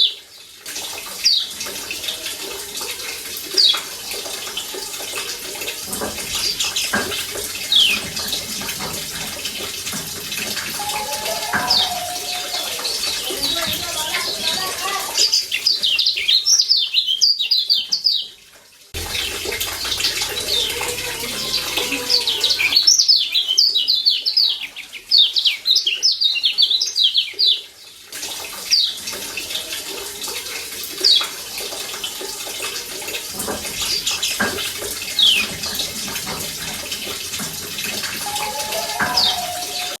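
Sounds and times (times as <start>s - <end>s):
running water hiss: 0.0s - 15.8s, 19.0s - 23.9s, 28.0s - 40.0s.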